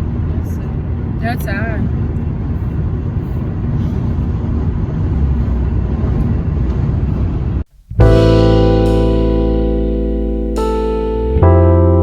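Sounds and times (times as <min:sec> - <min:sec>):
road noise: 0:00.0 - 0:11.5.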